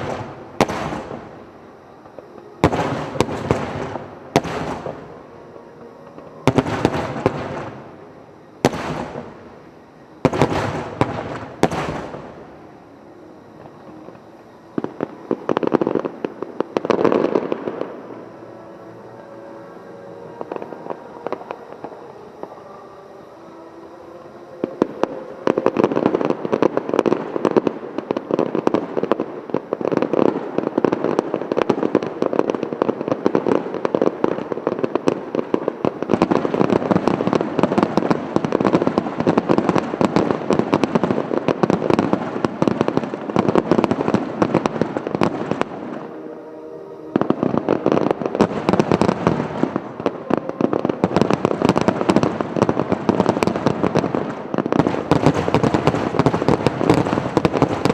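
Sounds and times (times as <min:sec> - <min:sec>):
fireworks bangs and crackling: 0:00.0 - 0:22.6, 0:24.6 - 0:57.9.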